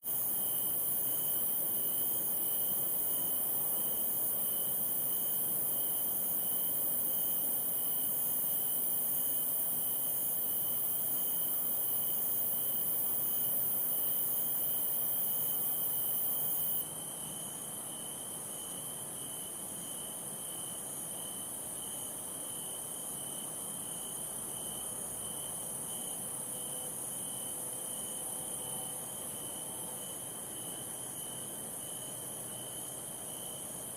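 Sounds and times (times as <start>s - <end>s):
insects pulsing chirp: 0.0s - 33.9s.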